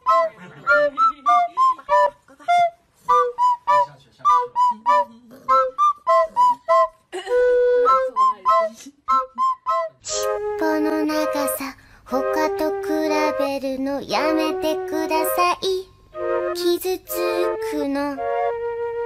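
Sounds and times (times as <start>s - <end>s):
light instrumental music: 0.0s - 19.0s.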